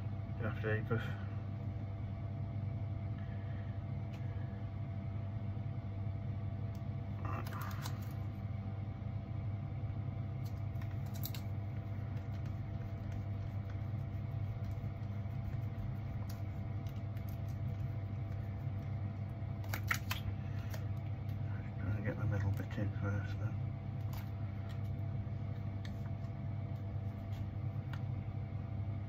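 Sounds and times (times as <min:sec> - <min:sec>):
low background hum: 0:00.0 - 0:29.0.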